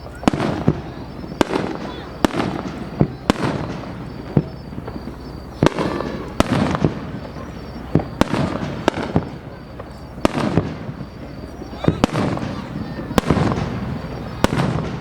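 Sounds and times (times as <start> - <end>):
crackling echoing tail: 0.0 - 15.0
fireworks bangs: 0.0 - 15.0.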